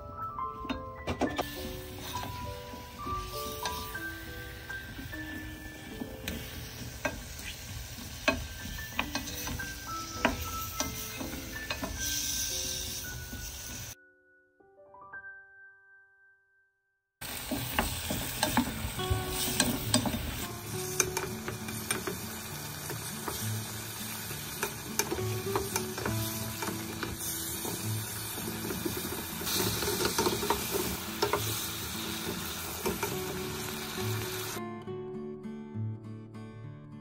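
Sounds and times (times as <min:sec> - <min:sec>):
zucchini sizzling in frying pan: 0:01.4 - 0:14.0, 0:17.2 - 0:34.6.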